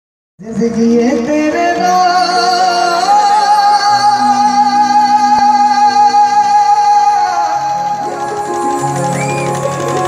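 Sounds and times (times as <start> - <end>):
man singing with vibrato: 0.4 - 9.2.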